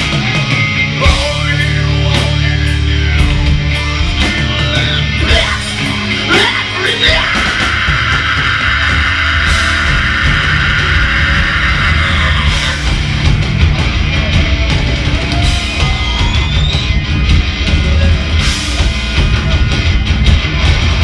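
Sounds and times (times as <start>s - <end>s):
hard rock band playing: 0.0s - 21.0s.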